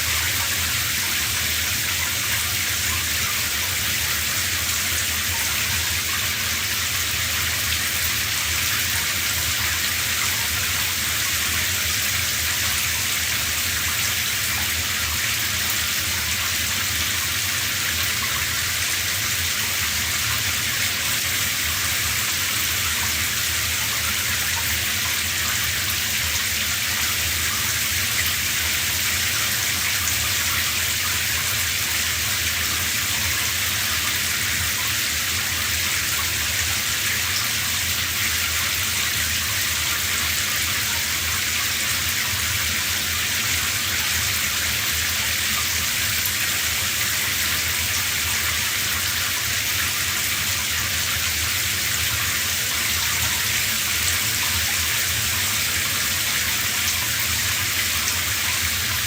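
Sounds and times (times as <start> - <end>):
shower running: 0.0 - 59.0.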